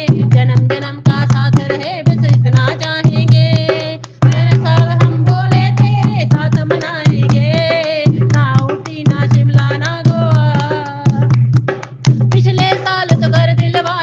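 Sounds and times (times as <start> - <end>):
steady drum beat: 0.0 - 14.0.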